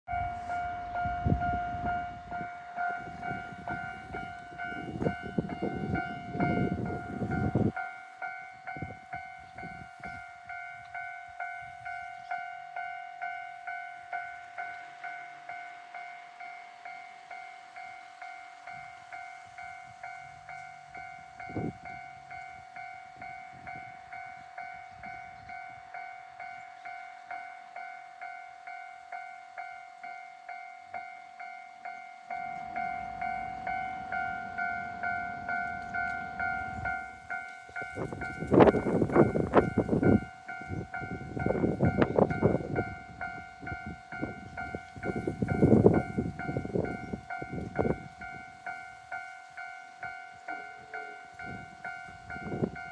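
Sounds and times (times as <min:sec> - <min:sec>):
train rumbling past: 0:00.1 - 0:52.9
level crossing bell clanging: 0:02.0 - 0:52.9.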